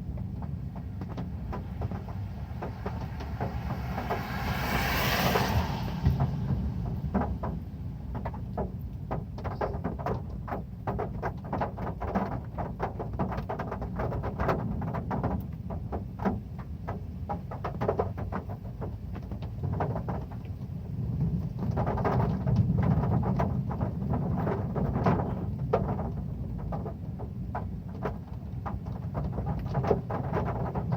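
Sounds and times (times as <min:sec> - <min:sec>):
heavy rain on a metal roof: 0:00.0 - 0:30.9.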